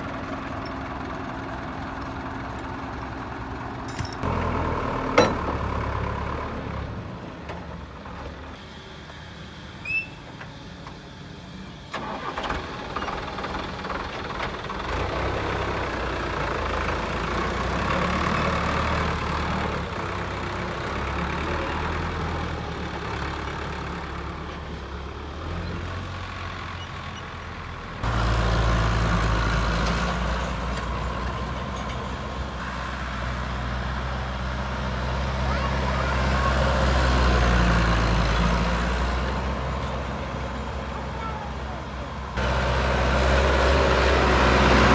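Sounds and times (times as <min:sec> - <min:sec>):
heavy vehicle engine running: 0:00.0 - 0:44.9.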